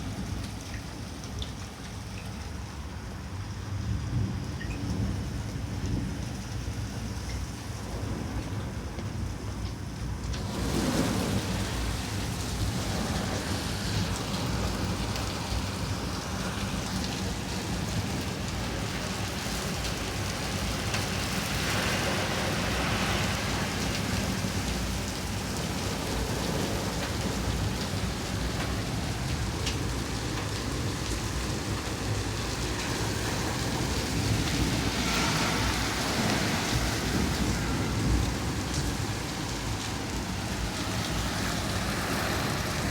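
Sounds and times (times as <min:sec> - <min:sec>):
hail and heavy rain pelting: 0:04.3 - 0:42.9.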